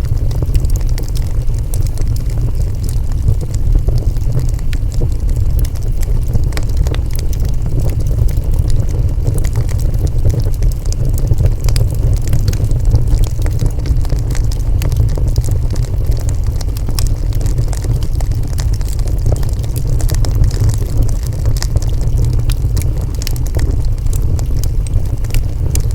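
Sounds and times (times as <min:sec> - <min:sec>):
fire crackling and popping: 0:00.0 - 0:25.9
wood fire rumbling: 0:00.0 - 0:25.9.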